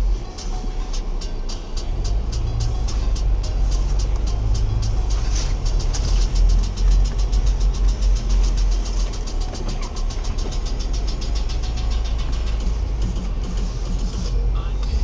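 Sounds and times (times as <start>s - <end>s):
engine and road rumble: 0.0s - 15.0s
fast even ticking: 0.0s - 15.0s.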